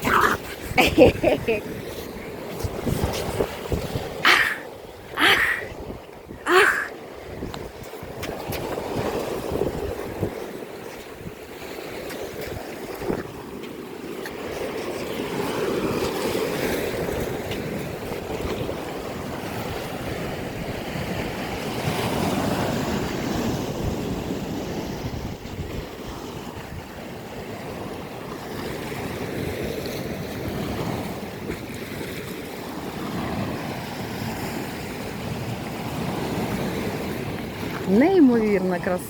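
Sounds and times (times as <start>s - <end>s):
wind rumbling on microphone: 0.0s - 38.8s
sea waves washing onto shore: 0.0s - 39.0s.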